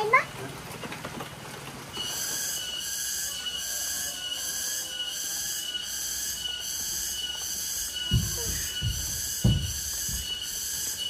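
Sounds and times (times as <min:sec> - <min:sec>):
thin steady whine: 0:01.9 - 0:11.0
insects buzzing in chorus: 0:02.0 - 0:11.0.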